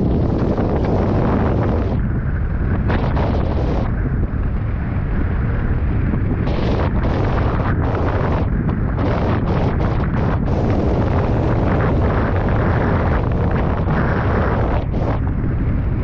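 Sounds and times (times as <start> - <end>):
constant low rumble: 0.0 - 16.0
wind buffeting microphone: 0.0 - 16.0.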